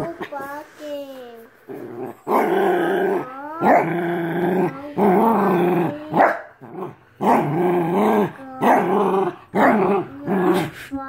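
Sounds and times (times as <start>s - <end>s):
small dog growling: 1.6s - 10.8s.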